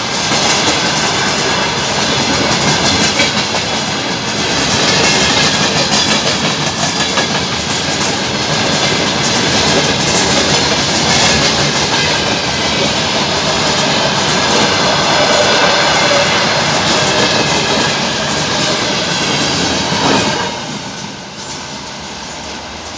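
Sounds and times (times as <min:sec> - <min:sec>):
freight train wheels clattering: 0:00.0 - 0:22.9.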